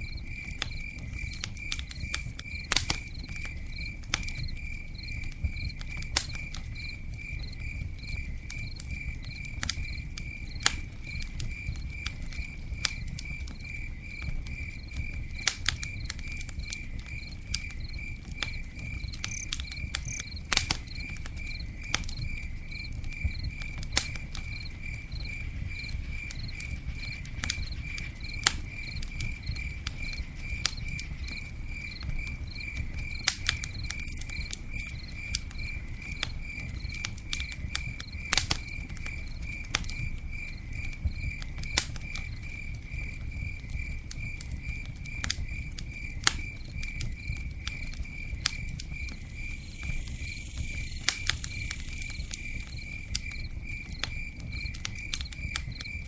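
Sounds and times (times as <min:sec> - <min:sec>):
campfire crackling and popping: 0:00.0 - 0:56.0
cricket chirping: 0:00.0 - 0:56.0.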